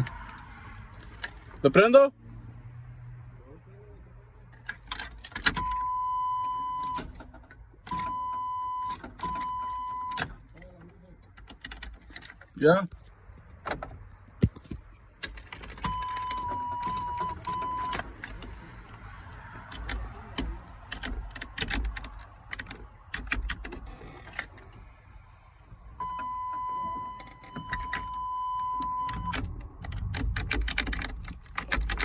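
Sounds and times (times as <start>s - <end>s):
keys rattling in ignition: 0.0s - 2.0s, 4.4s - 32.0s.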